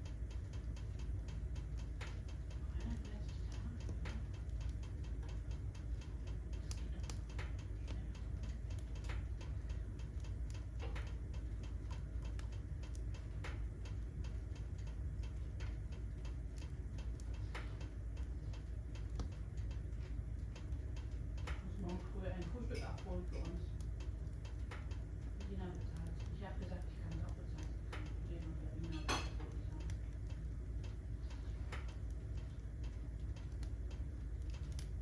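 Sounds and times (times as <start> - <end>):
low steady rumble: 0.0 - 35.0
wood fire crackling: 0.0 - 35.0.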